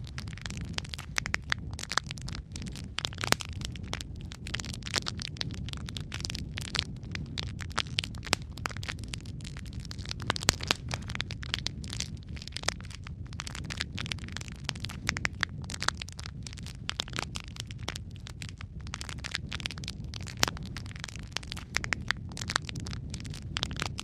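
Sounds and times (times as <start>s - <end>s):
logs crackling and popping: 0.0s - 24.0s
low rumble of fire: 0.0s - 24.0s.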